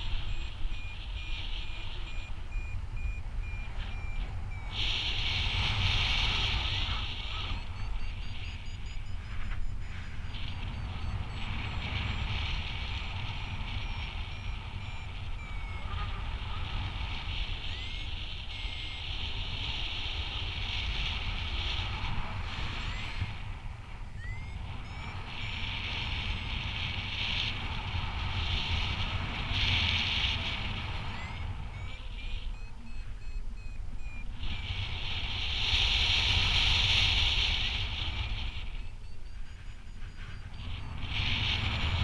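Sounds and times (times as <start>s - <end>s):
faint beeps and rising chirps: 0.0s - 42.0s
wind rushing over microphone: 0.0s - 42.0s.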